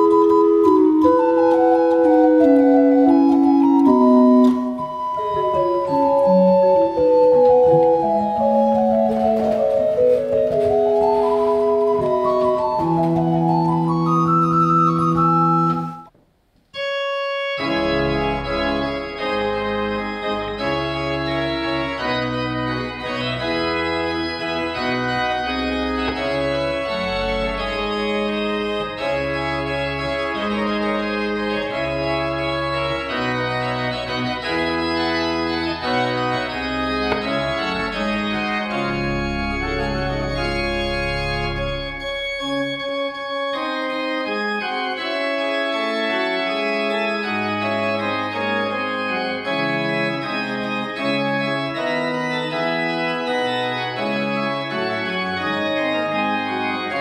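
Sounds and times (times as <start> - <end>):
pipe organ playing: 0.0 - 16.1, 16.8 - 57.0.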